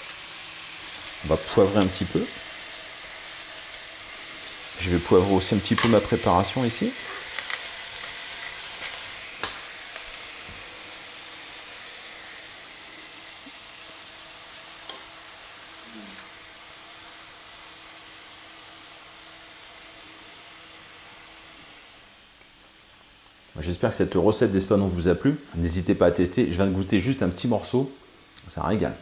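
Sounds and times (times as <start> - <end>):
sauce sizzling in pan: 0.0 - 28.5.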